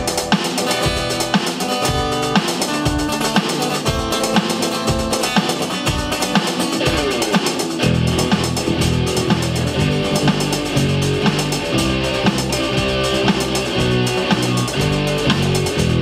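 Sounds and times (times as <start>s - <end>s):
drum kit steady beat: 0.0s - 16.0s
guitars: 0.0s - 16.0s.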